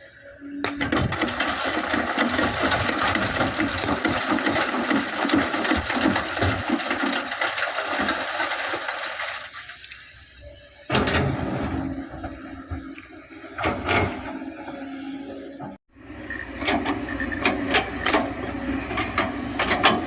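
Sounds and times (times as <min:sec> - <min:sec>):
machinery running: 0:00.1 - 0:08.2, 0:10.5 - 0:20.0.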